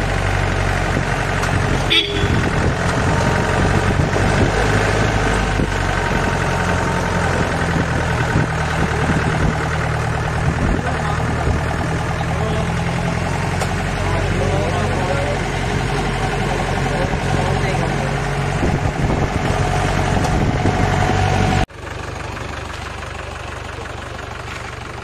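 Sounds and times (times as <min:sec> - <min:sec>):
jeep engine running: 0:00.0 - 0:25.0.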